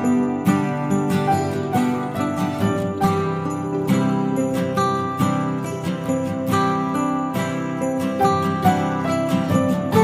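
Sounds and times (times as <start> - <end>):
bright jingly beat: 0.0 - 10.0.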